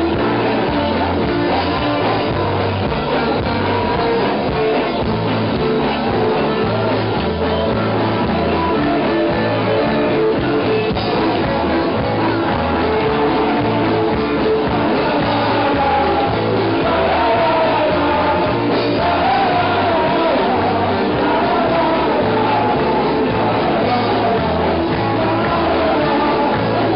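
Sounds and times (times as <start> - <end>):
live punk rock band: 0.0 - 26.9
person singing: 0.0 - 26.9.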